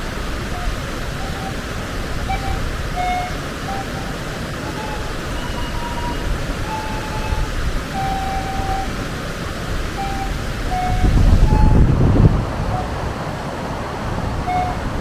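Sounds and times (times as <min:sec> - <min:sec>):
flute playing slow melody: 0:00.0 - 0:13.2, 0:14.4 - 0:15.0
waterfall rushing: 0:00.0 - 0:15.0.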